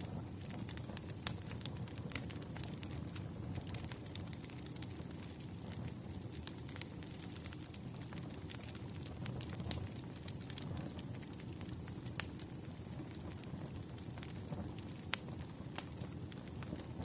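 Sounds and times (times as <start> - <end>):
burning logs popping: 0.0 - 17.0
wood fire crackling: 0.0 - 17.0.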